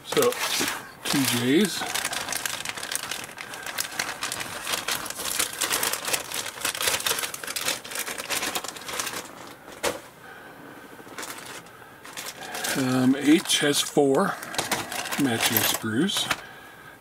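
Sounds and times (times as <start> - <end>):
plastic bag crinkling: 0.0 - 10.0, 11.1 - 16.4.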